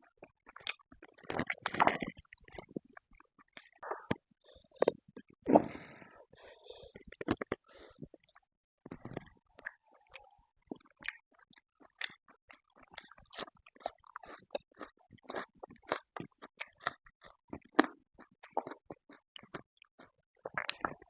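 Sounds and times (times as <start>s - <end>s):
person chewing: 0.2s - 21.0s.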